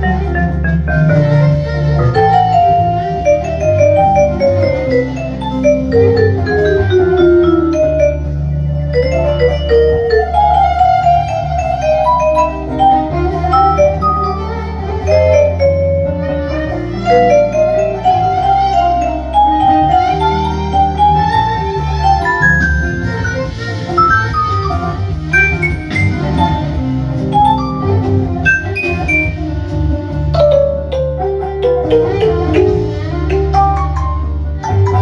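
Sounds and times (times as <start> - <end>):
bass guitar: 0.0 - 35.0
drums: 0.0 - 35.0.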